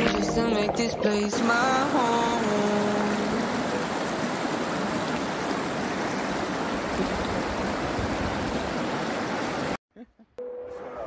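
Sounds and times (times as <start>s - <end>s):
stream rushing over rocks: 0.0s - 9.8s.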